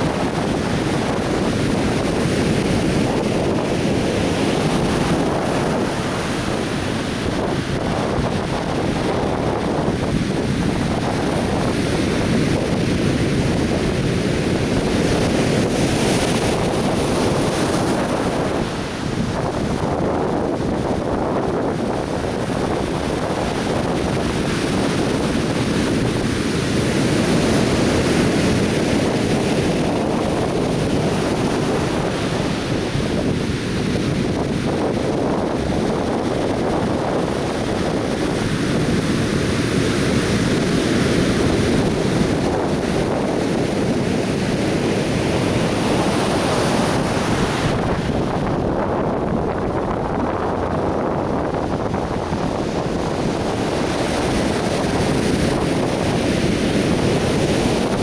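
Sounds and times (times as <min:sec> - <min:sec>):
surf breaking on a beach: 0:00.0 - 0:58.0
wind rumbling on microphone: 0:00.0 - 0:58.0.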